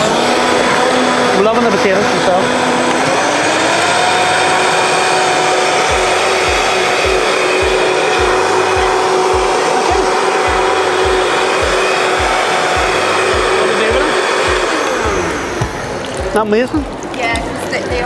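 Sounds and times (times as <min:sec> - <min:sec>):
blender running: 0:00.0 - 0:18.0.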